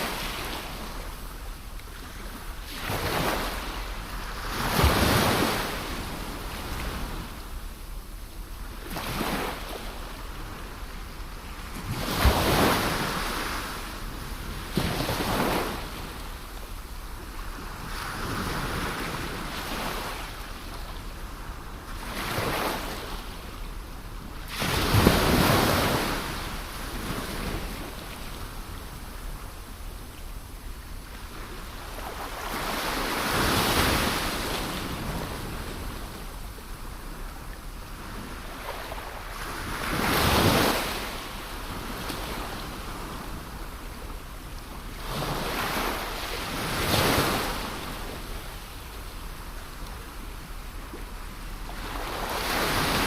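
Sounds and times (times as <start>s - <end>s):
steady surf wash: 0.0s - 53.0s.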